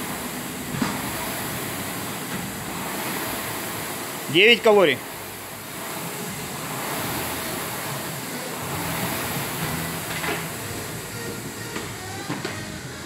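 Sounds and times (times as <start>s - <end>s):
rowing machine fan whirring: 0.0s - 13.0s.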